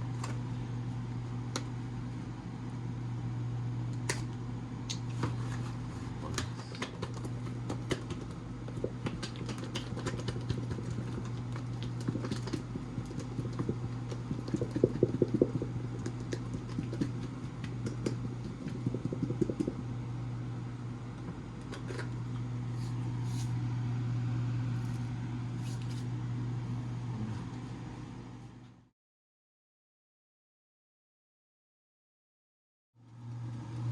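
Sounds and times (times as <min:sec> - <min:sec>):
fan humming: 0:00.0 - 0:28.9, 0:33.0 - 0:33.9.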